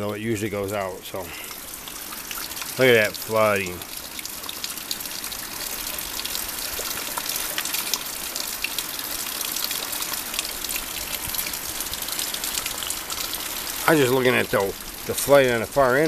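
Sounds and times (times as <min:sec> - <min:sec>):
drip-like ticks: 0:00.0 - 0:15.4
floodwater rushing: 0:00.0 - 0:16.0.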